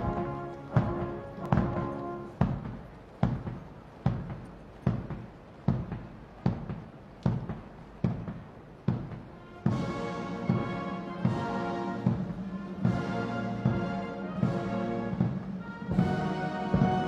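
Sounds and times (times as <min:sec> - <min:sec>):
drums beating funeral march: 0:00.0 - 0:17.0.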